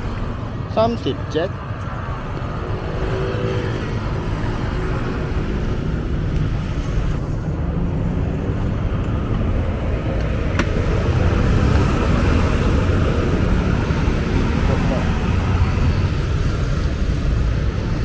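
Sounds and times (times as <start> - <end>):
cars and motorbikes passing: 0.0 - 18.0.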